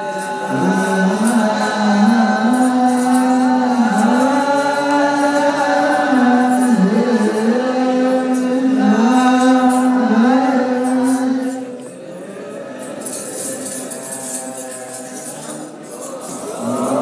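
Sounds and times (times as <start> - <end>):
male chorus chanting: 0.0 - 17.0.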